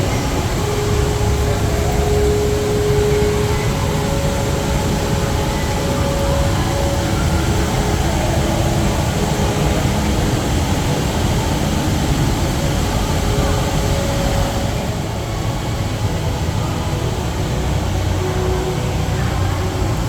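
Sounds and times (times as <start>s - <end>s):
faint background voices: 0.0s - 20.0s
indoor waterfall rushing: 0.0s - 20.0s.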